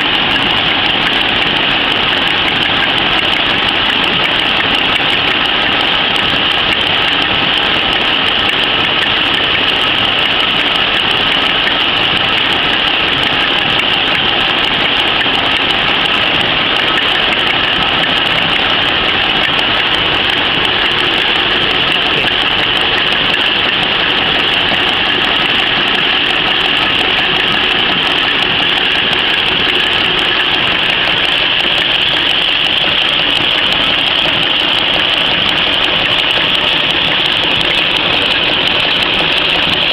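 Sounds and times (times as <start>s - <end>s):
loud machine din: 0.0s - 39.9s.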